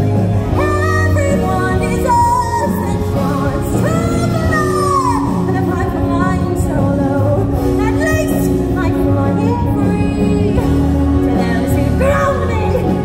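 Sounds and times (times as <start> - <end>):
singers singing: 0.0 - 13.0.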